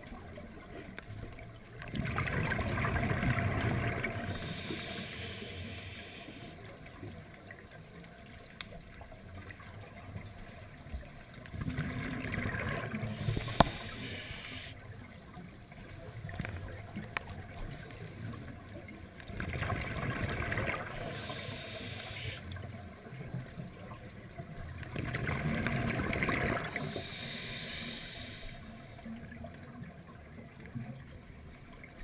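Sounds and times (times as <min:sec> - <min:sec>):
underwater bubbling rush: 0:00.0 - 0:32.0.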